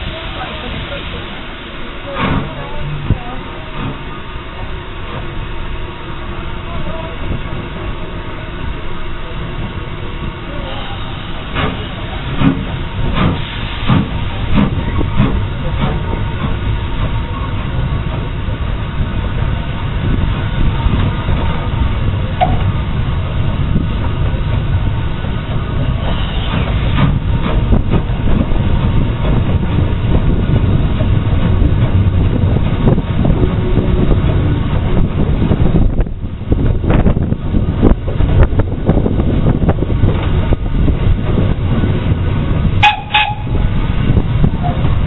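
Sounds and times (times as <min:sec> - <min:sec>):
steam locomotive exhaust beats: 0:00.0 - 0:45.0
train rumble and hiss: 0:00.0 - 0:45.0.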